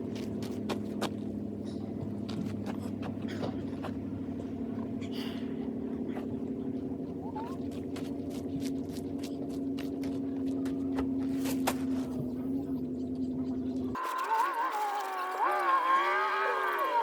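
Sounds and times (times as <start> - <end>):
vehicle engine and road hum: 0.0 - 14.1.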